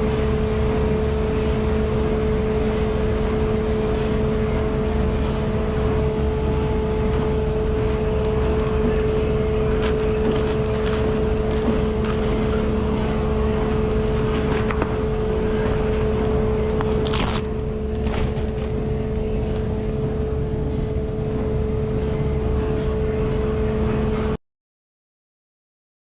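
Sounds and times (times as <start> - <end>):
kitchen machine hum: 0.0 - 24.4.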